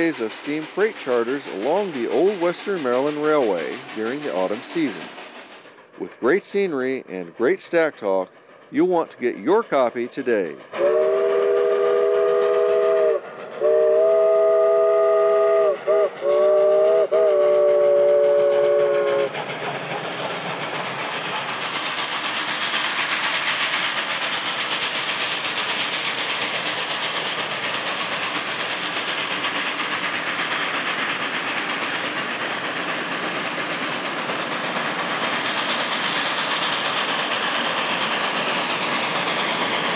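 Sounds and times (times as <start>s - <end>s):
locomotive exhaust rushing: 0.0s - 39.9s
train rolling: 0.0s - 39.9s.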